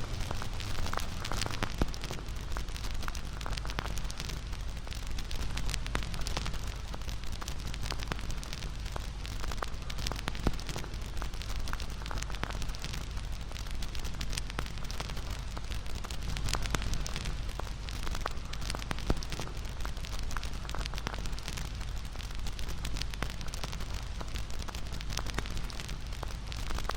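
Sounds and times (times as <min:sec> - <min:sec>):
bonfire crackling and popping: 0:00.0 - 0:26.9
low rumble of flames: 0:00.0 - 0:26.9.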